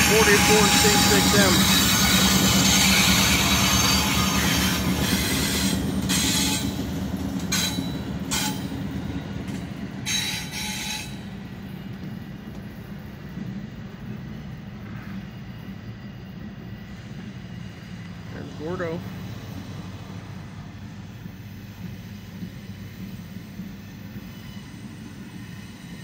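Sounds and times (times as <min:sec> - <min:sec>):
diesel locomotive engine droning: 0:00.0 - 0:26.0
train cars rolling by: 0:00.0 - 0:26.0
wheels squealing on rails: 0:00.0 - 0:26.0.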